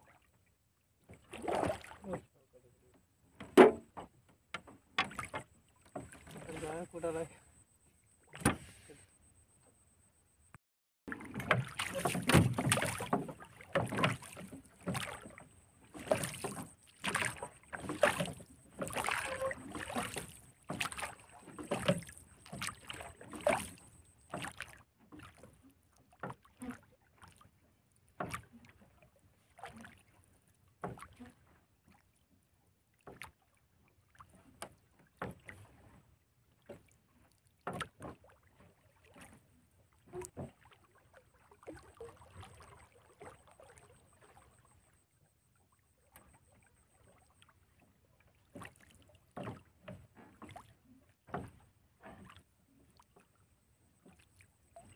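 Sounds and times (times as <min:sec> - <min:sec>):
water lapping against boat hull: 0:00.0 - 0:09.8, 0:10.5 - 0:54.9.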